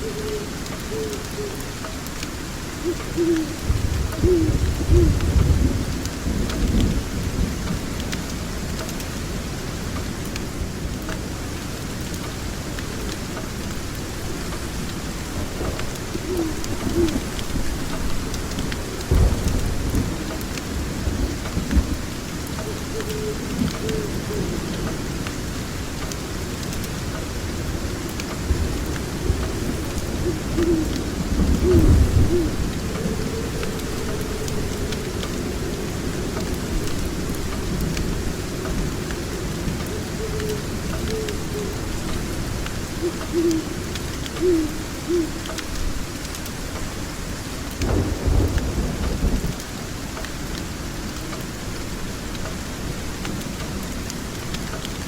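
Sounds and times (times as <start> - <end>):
steady rain: 0.0 - 55.0
thunder rumbling: 2.4 - 11.9, 13.6 - 45.4, 47.8 - 51.4.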